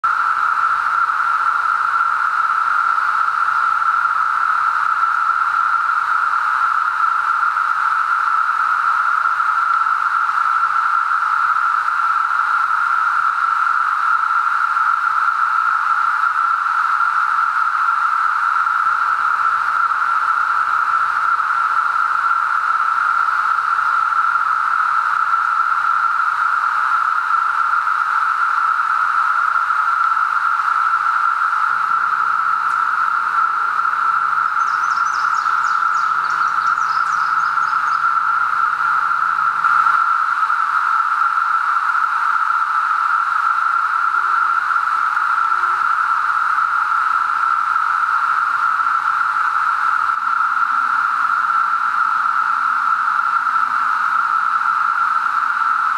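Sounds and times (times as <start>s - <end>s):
cicadas humming: 0.0s - 55.9s.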